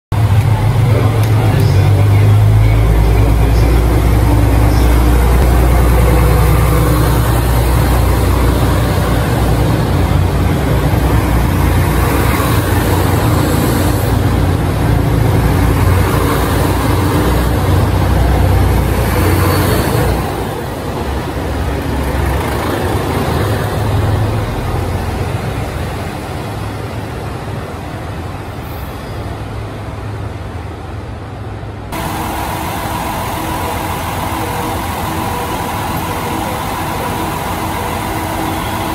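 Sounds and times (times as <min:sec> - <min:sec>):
diesel train rumbling past: 0:00.1 - 0:38.9.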